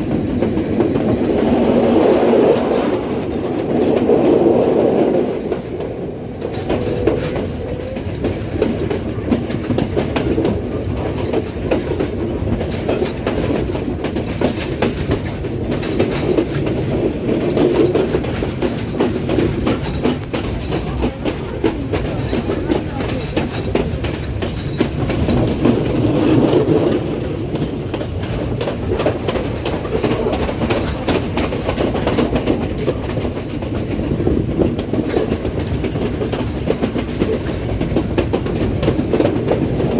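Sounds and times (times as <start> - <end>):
train rumble: 0.0 - 39.9
train wheels clattering: 0.0 - 39.9.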